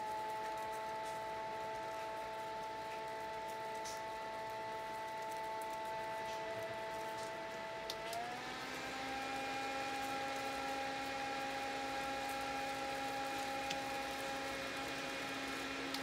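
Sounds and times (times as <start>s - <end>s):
mini fan whirring: 0.0s - 16.0s.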